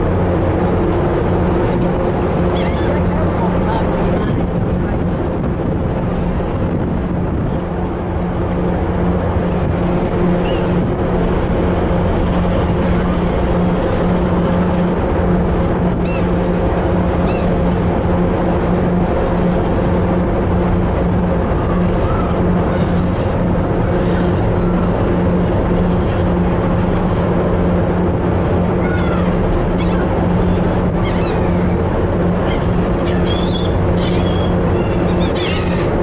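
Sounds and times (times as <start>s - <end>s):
gulls calling: 0.0s - 4.5s, 9.1s - 36.0s
ferry engine droning: 0.0s - 36.0s.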